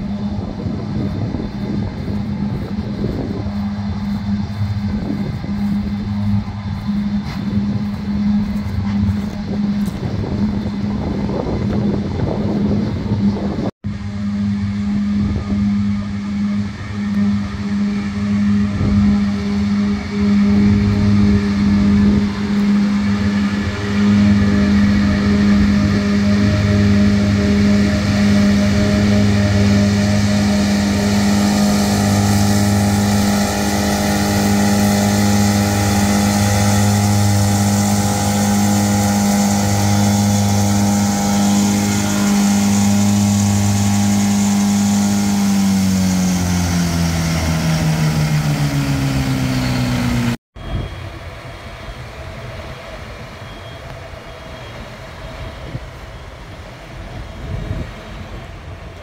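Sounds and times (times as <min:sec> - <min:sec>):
mower engine running: 0:00.0 - 0:52.3
rough quieter engine: 0:00.0 - 0:59.0.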